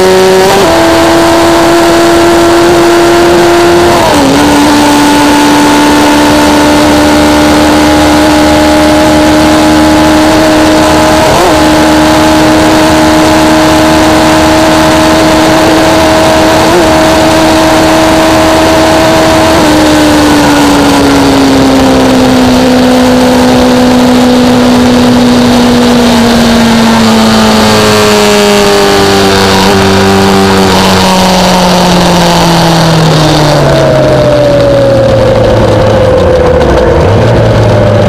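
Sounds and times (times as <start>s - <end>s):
motorcycle engine running: 0.0s - 38.0s
wind noise: 0.0s - 38.0s.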